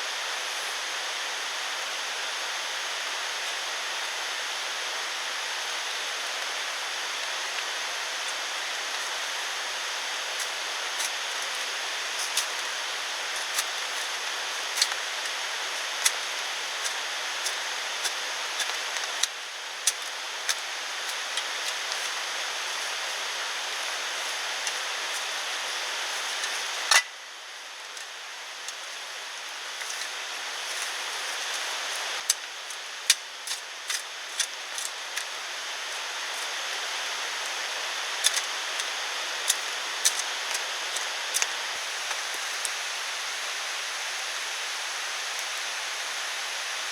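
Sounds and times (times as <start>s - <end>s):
rain hiss: 0.0s - 46.9s.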